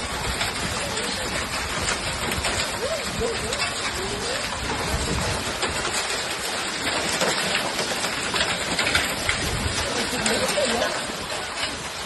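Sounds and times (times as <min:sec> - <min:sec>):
hailstones striking: 0:00.0 - 0:12.0
heavy rain hissing: 0:00.0 - 0:12.0.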